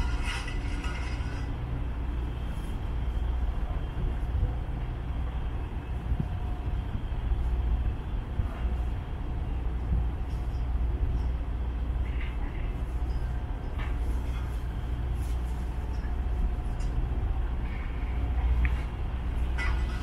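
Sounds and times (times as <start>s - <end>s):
city waterfront ambience rumble: 0.0s - 20.0s.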